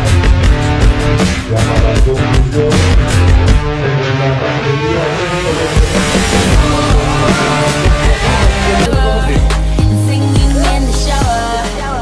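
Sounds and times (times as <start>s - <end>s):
music with sliding bass and beat: 0.0s - 12.0s.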